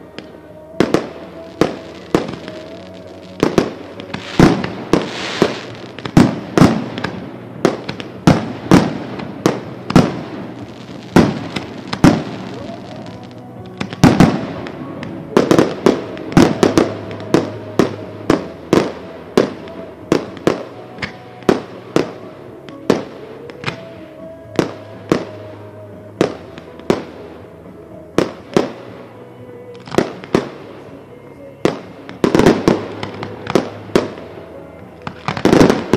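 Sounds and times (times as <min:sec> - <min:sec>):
fireworks bangs: 0:00.0 - 0:35.9.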